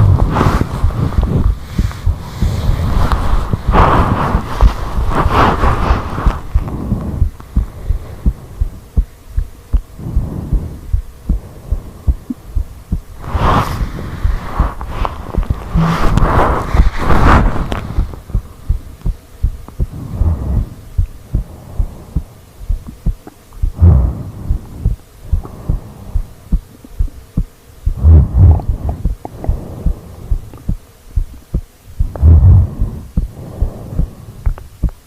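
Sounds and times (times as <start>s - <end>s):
deep sleeping breath: 0.0s - 9.1s, 9.7s - 26.6s, 27.8s - 30.8s, 32.0s - 35.0s
heartbeat thuds: 0.0s - 35.0s.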